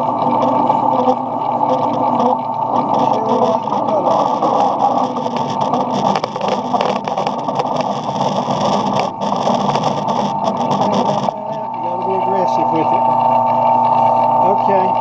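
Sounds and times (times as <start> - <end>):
metal lathe whining: 0.0 - 15.0
cutting clicks and scraping: 0.2 - 12.5.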